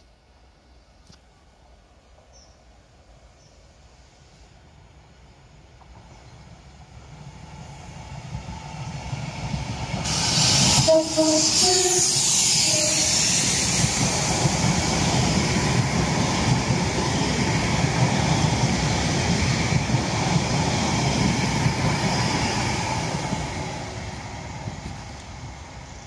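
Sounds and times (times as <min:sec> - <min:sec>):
train wheels rumbling on rail: 0:01.0 - 0:26.0.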